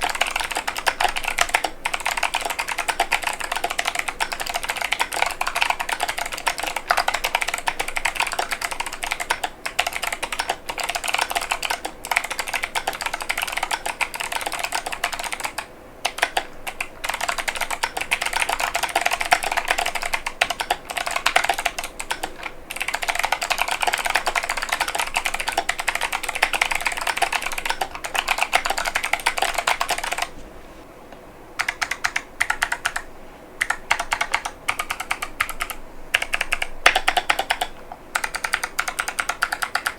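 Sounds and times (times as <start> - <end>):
typing on mechanical keyboard: 0.0 - 30.3, 31.6 - 39.9.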